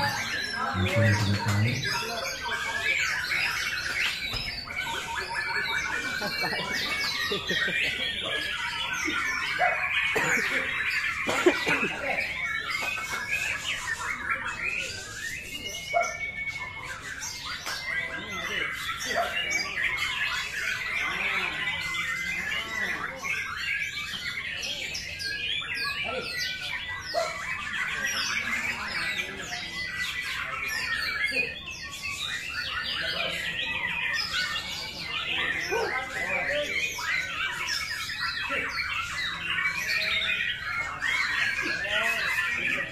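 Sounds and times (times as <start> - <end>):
songbird whistling and chirping: 0.0 - 42.9.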